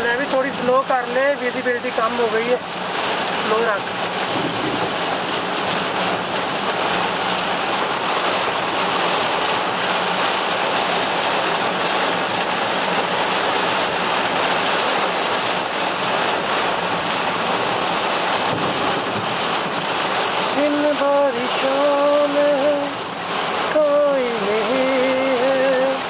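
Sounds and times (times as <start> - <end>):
heavy rain drumming on car roof: 0.0 - 26.0.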